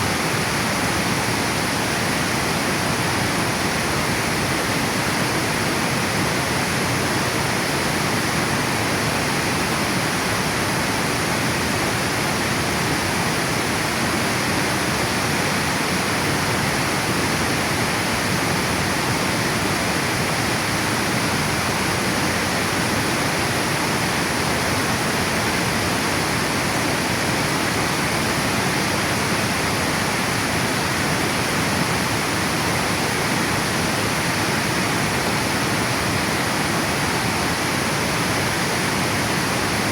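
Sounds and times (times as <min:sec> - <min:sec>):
water pouring over a spillway: 0:00.0 - 0:39.9.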